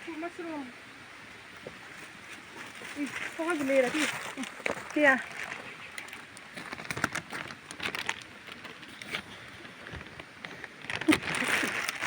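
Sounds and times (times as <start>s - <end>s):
leaves and twigs rustling: 1.5s - 12.0s.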